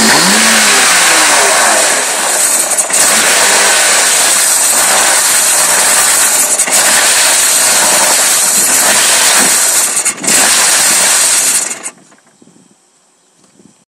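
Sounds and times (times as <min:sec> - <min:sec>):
car engine rough idle: 0:00.0 - 0:12.1.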